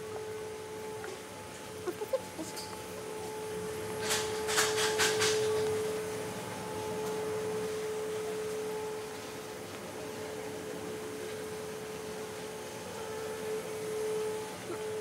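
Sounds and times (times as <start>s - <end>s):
steady humming tone: 0.0s - 15.0s.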